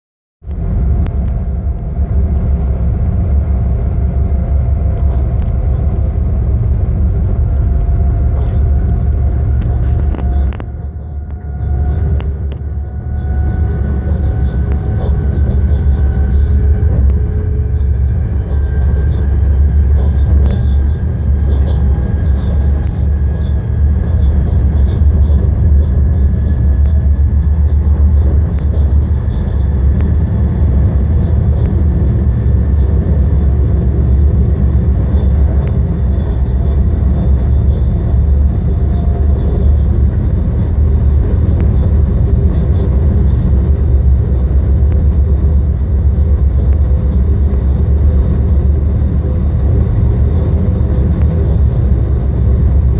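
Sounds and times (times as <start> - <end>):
locomotive cab rumble: 0.4 - 52.9.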